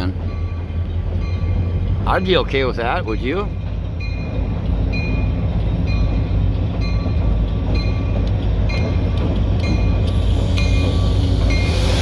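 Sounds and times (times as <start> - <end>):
railroad crossing bell dinging: 0.0 - 3.3, 4.0 - 12.0
freight train rumbling past: 0.0 - 12.0.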